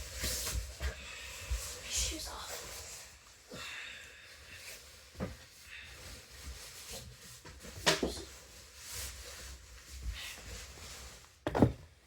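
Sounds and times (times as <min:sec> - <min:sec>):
quiet rustling and handling: 0:00.0 - 0:12.0.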